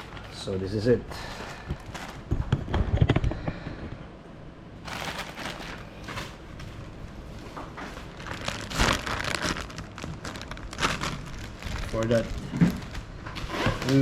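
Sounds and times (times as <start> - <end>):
packaging rustling: 0.0 - 2.8, 4.8 - 14.0.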